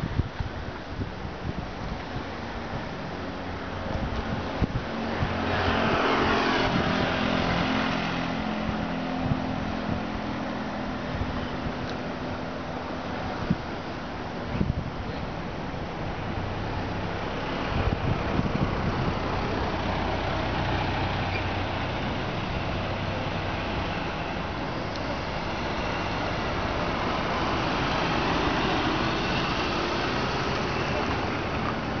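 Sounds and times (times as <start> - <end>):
road traffic with engine hum: 0.0 - 32.0.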